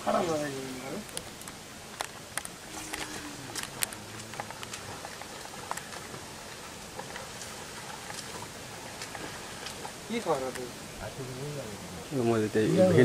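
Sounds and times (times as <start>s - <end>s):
steady faint hiss: 0.0s - 13.0s
water splashing and dripping: 0.0s - 13.0s.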